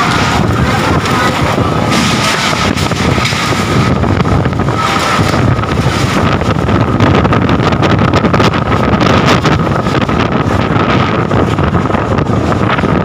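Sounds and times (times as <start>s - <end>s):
high wind whistle: 0.0s - 13.0s
wind buffeting microphone: 0.0s - 13.0s.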